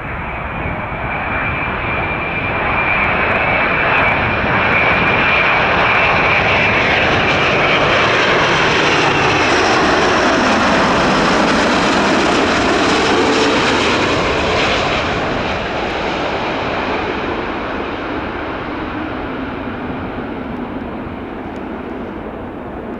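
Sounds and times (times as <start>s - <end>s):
jet airliner passing: 0.0s - 22.9s.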